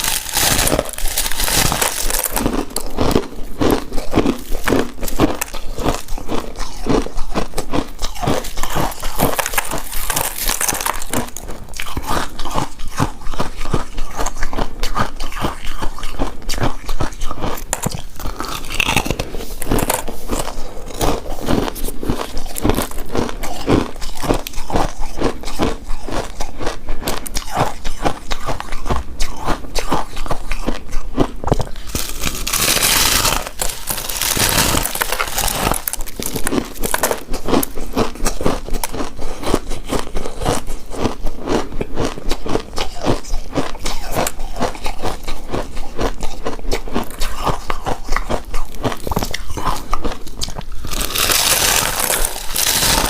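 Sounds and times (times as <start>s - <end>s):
chewing sticky rice cake: 0.0s - 53.0s.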